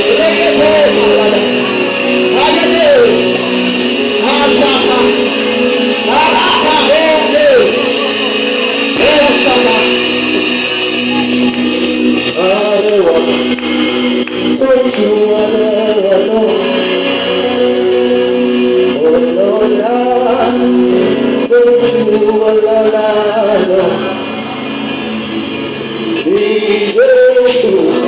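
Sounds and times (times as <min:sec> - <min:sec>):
guitar accompaniment: 0:00.0 - 0:28.0
voices singing held notes: 0:00.0 - 0:28.0.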